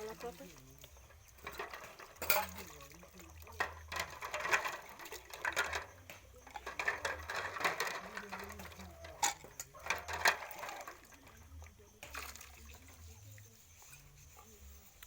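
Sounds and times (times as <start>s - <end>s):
dishes clinking while washed: 0.0s - 15.0s.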